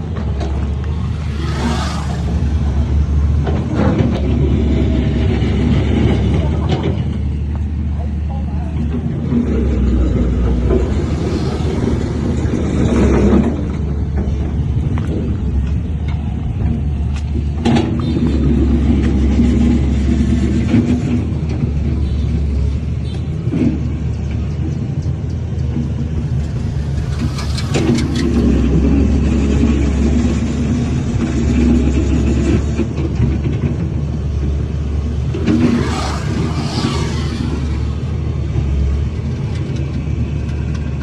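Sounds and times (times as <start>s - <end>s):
diesel engine rumble: 0.0s - 41.0s.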